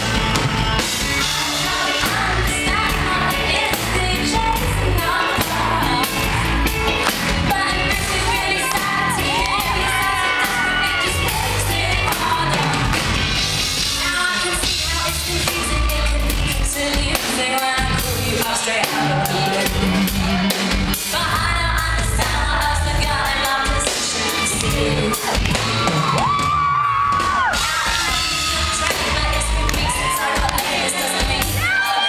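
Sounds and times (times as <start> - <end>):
live band with drums and keyboards: 0.0 - 32.0
woman singing pop: 1.2 - 6.4, 7.0 - 13.0, 14.0 - 20.0, 21.0 - 25.5, 27.6 - 32.0.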